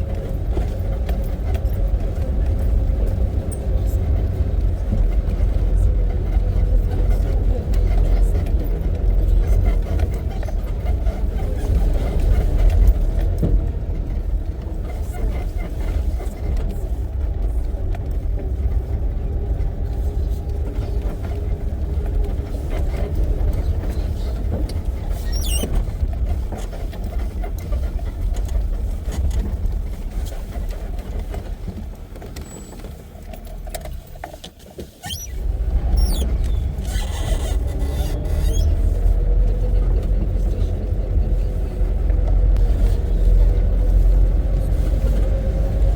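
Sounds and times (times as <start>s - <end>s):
vehicle engine and road rumble: 0.0s - 45.9s.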